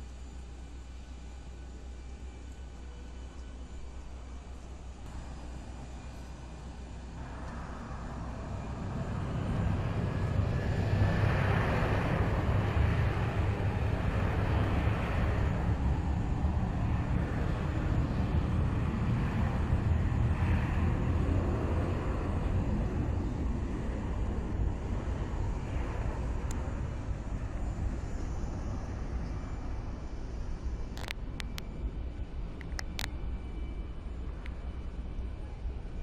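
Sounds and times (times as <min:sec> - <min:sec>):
jet engines spooling up: 0:05.1 - 0:36.0.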